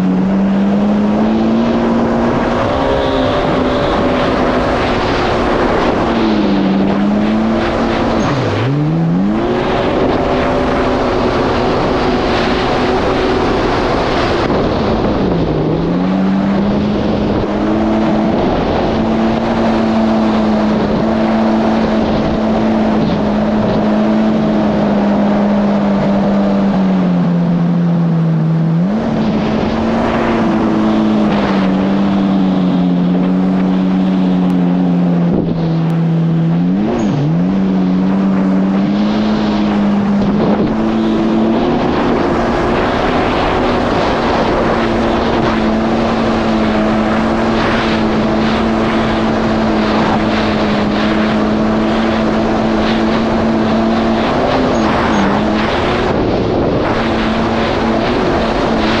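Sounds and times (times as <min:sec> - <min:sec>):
watercraft engine running hard: 0:00.0 - 0:59.0
wind and water rushing: 0:00.0 - 0:59.0.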